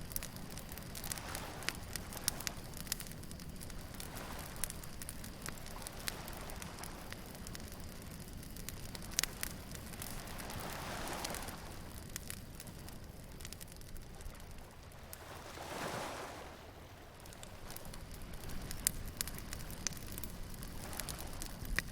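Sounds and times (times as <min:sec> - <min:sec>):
bonfire crackling and popping: 0:00.0 - 0:21.9
waves washing in: 0:00.0 - 0:21.9.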